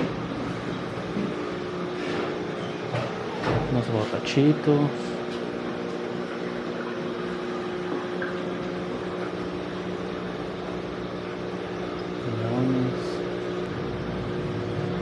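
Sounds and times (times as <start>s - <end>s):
aquarium pumps humming: 0.0s - 15.0s.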